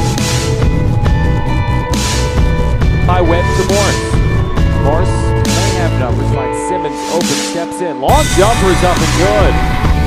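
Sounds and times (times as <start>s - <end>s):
backing music with deep bass: 0.0s - 10.0s.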